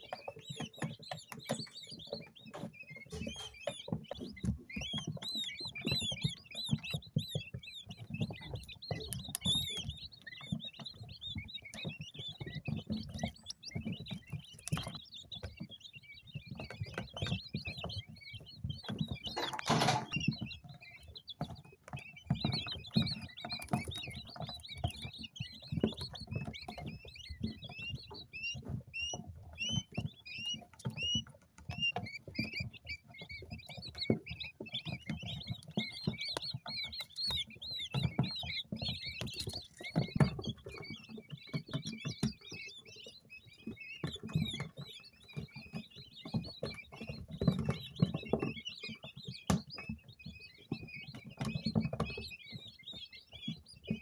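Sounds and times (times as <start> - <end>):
quail chicks peeping: 0.0 - 54.0.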